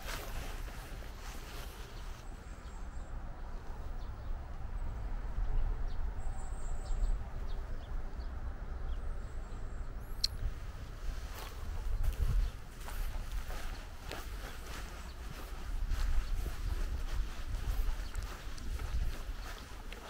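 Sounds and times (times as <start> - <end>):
steady low rumble: 0.2 - 20.0.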